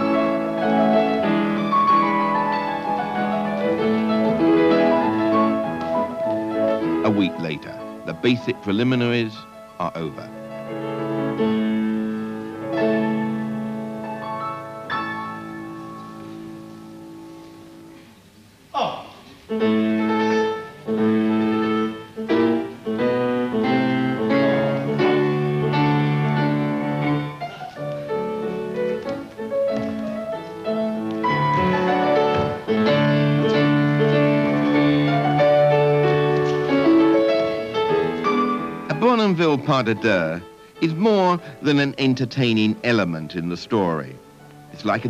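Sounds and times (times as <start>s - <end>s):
classical ballet piano music: 0.0s - 18.0s, 19.4s - 45.0s.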